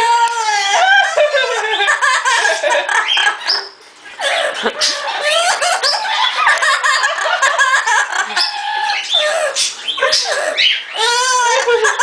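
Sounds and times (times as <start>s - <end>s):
parrot chattering and squawking: 1.5s - 12.0s.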